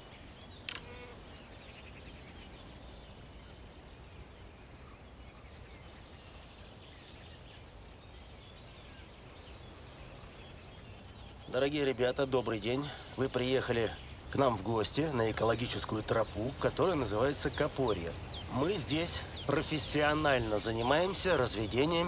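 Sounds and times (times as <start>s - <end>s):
insects chirping: 0.0s - 22.0s
low steady hiss: 0.0s - 22.0s.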